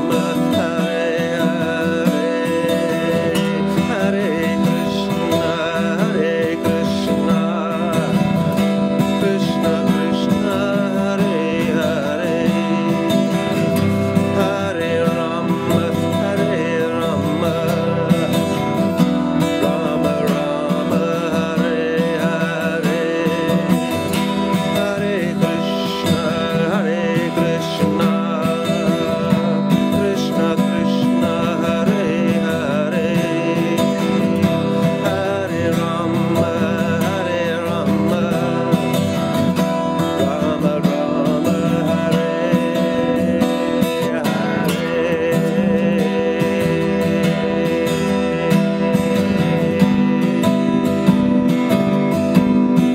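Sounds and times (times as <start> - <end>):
acoustic guitar strumming: 0.0 - 52.9.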